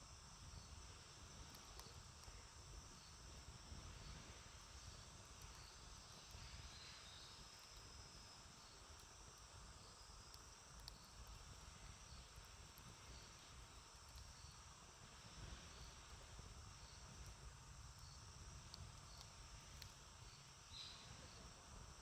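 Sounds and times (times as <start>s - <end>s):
campfire crackles: 0.0s - 22.0s
insect chirring: 0.0s - 22.0s.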